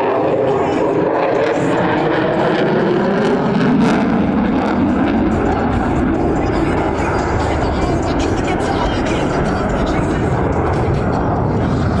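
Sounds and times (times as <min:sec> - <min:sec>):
jet engine noise: 0:00.0 - 0:12.0.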